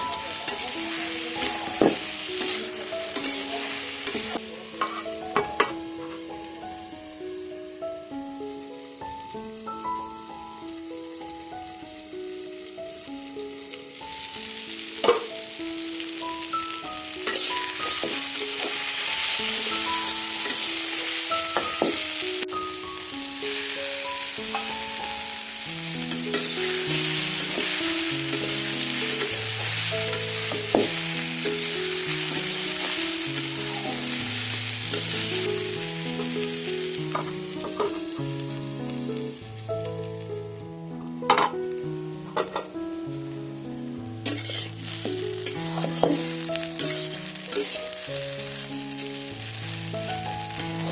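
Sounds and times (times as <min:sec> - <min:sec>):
background music melody: 0:00.0 - 0:50.9
food sizzling in hot oil: 0:00.0 - 0:50.9.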